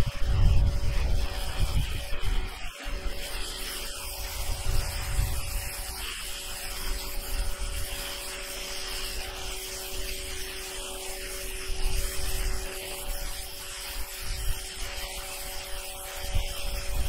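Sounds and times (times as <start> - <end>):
pressure washer spray hiss: 0.0 - 17.0
steady hum: 0.0 - 17.0.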